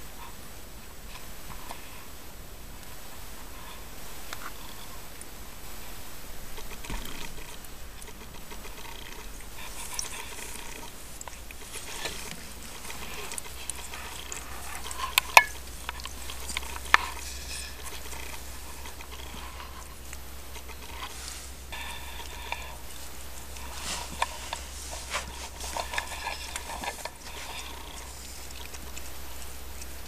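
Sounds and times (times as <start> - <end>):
faint rustling in bedding: 2.9 - 28.6.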